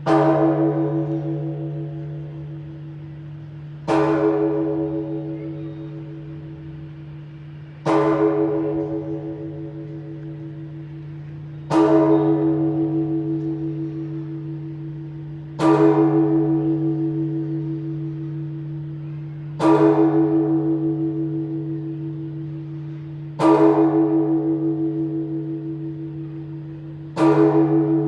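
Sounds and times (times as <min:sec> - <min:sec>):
large church bell tolling: 0:00.0 - 0:28.0.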